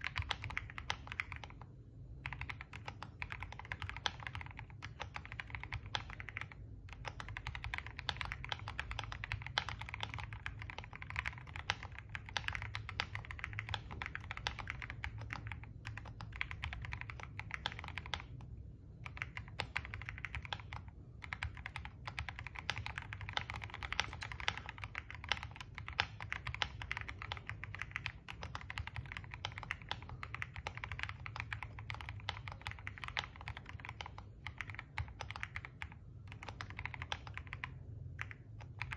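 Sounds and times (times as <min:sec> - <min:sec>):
low steady hum: 0:00.0 - 0:38.9
small rapid clicks: 0:00.0 - 0:38.9.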